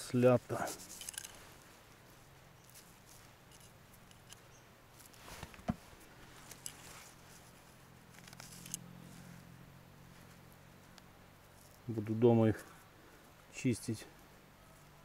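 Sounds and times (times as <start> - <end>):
rustling in dry pine needles: 0.0 - 15.0.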